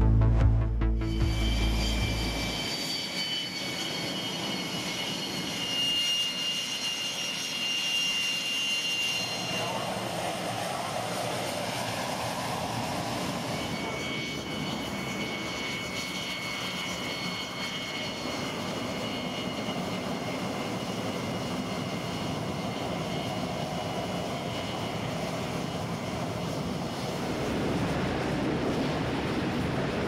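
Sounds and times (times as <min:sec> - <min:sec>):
high-pitched turbine whine: 0:00.0 - 0:30.0
jet engine roar: 0:00.0 - 0:30.0.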